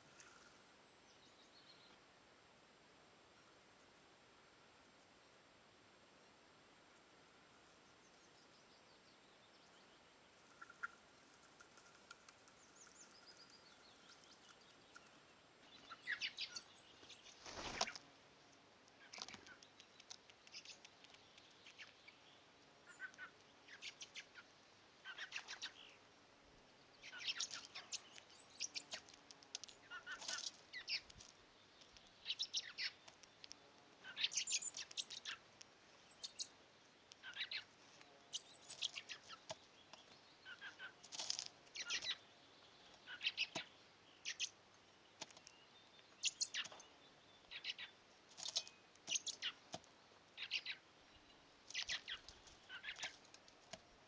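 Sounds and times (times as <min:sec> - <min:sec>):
songbirds singing: 0:00.0 - 0:02.3, 0:06.2 - 0:54.0.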